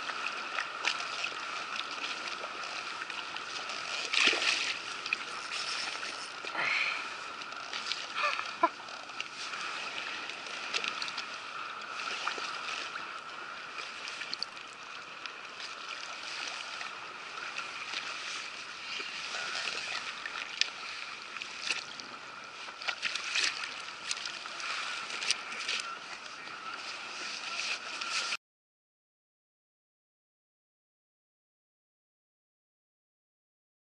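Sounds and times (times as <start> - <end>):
water lapping against kayak hull: 0.0 - 28.4.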